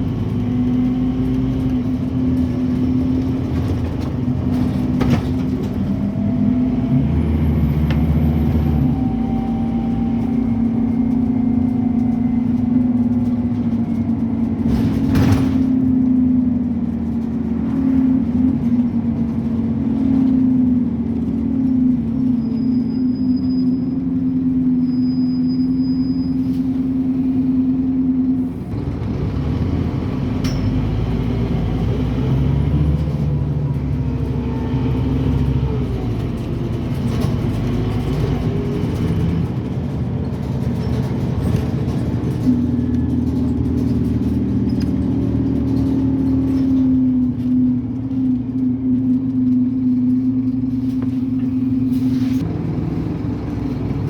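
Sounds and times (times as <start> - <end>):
bus diesel engine droning: 0.0 - 54.0.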